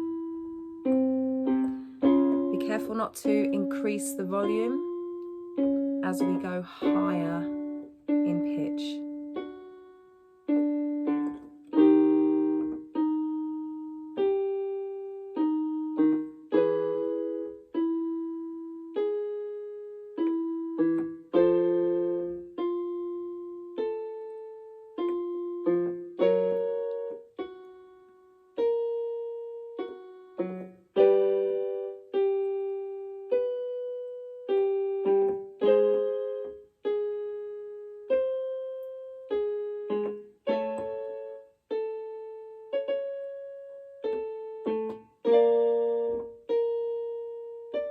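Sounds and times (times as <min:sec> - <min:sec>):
piano notes and chords: 0:00.0 - 0:47.9.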